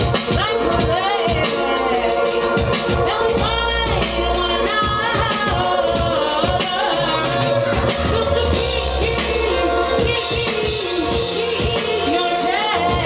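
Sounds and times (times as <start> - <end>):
band music with sung vocals: 0.0 - 13.0.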